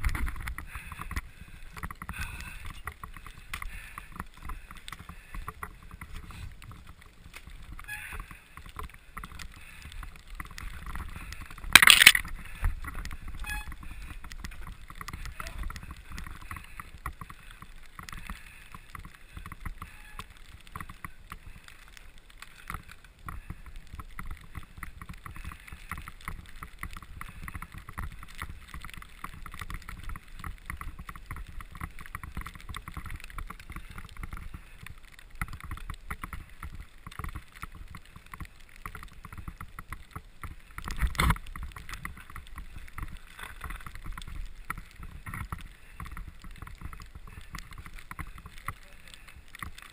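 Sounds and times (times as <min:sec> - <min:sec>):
bicycle tyres rumbling on snow: 0:00.0 - 0:49.9
bike and camera rattling: 0:00.0 - 0:49.9.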